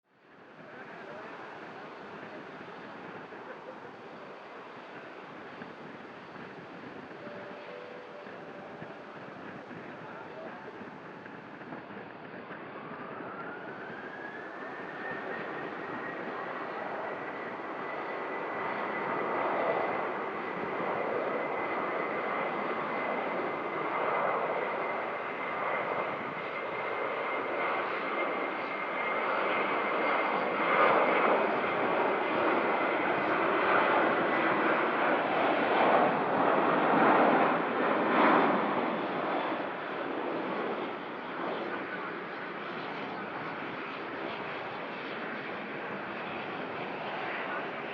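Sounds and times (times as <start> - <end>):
airliner engines whining: 0.2 - 47.9.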